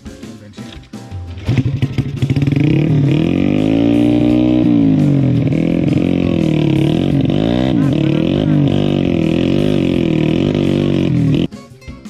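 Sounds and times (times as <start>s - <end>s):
dirt bike engine revving: 1.3s - 11.5s.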